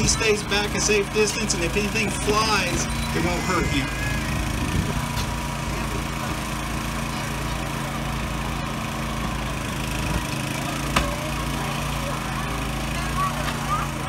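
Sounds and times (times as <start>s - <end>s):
power unit motor running: 0.0s - 14.0s.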